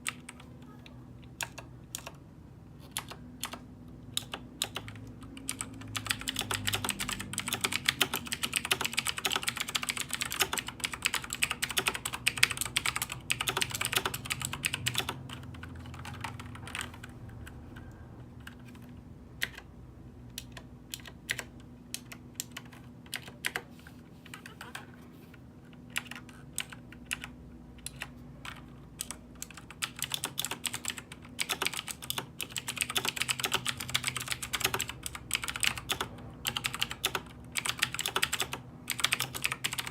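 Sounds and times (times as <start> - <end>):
typing on a computer keyboard: 0.0 - 2.2, 2.8 - 19.7, 20.3 - 25.0, 25.8 - 39.9.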